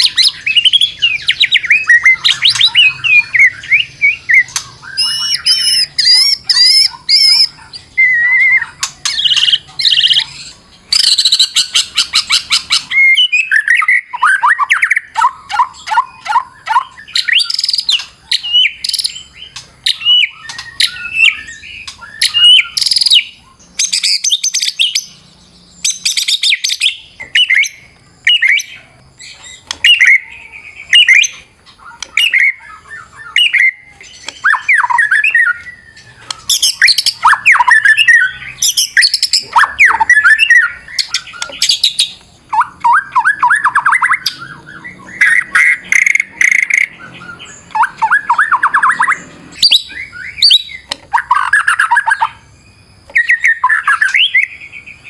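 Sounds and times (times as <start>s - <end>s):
bird singing varied song: 0.0s - 55.0s.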